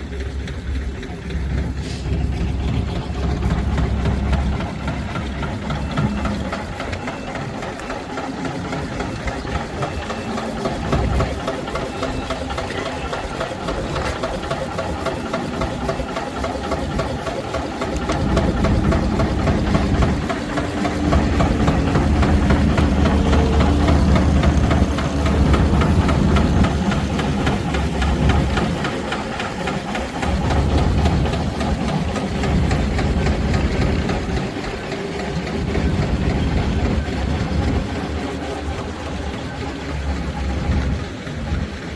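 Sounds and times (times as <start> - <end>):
machinery clatter: 0.0 - 41.9
steam engines driving sawmill: 0.0 - 41.9.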